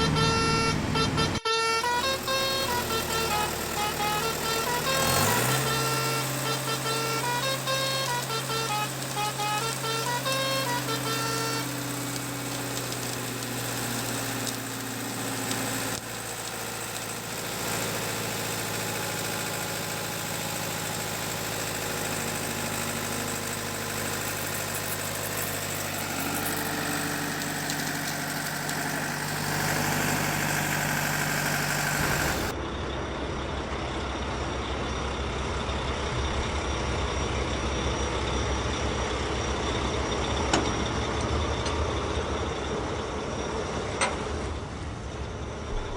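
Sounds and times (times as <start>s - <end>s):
engine running: 0.0s - 45.9s
low rumbling engine: 0.0s - 45.9s.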